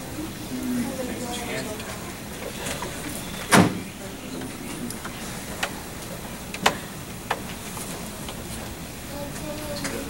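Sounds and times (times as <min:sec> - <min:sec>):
steady room hiss: 0:00.0 - 0:10.0.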